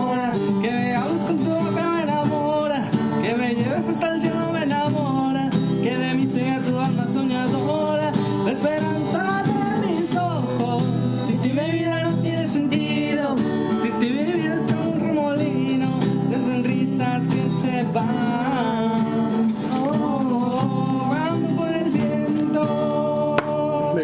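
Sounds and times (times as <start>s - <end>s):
guitar: 0.0s - 24.0s
man singing: 0.0s - 24.0s
pop love song: 0.0s - 24.0s.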